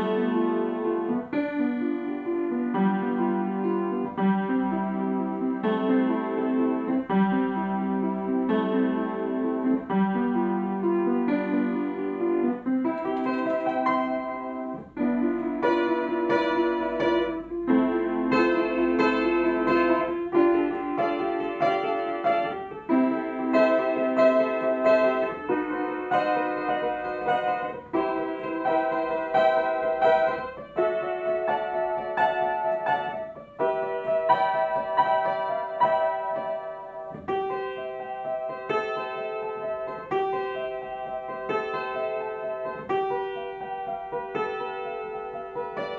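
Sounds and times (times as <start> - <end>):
upright piano playing: 0.0 - 45.9.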